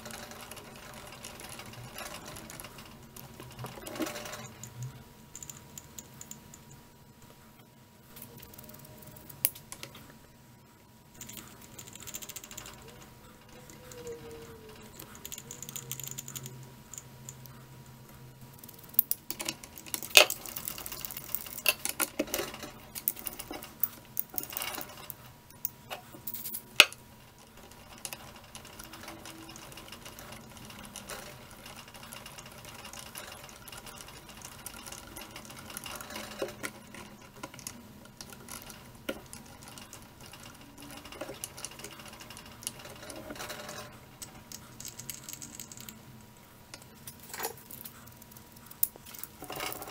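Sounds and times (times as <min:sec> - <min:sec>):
faint steady whine: 0:00.0 - 0:49.9.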